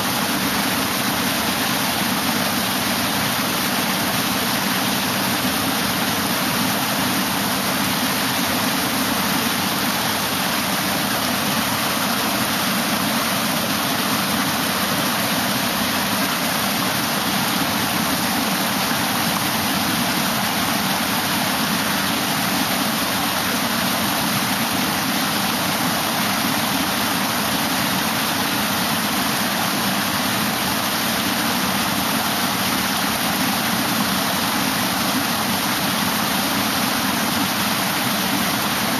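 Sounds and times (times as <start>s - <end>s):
water cascading over weirs: 0.0s - 38.9s.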